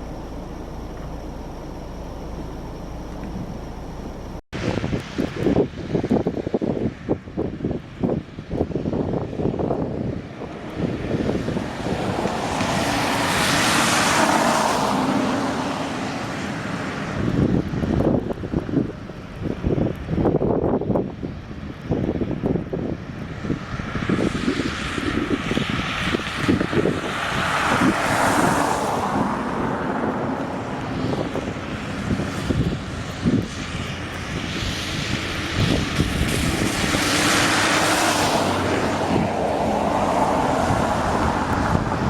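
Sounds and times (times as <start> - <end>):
engine rumble: 0.0 - 5.6, 10.3 - 42.0
wind buffeting microphone: 0.0 - 42.0.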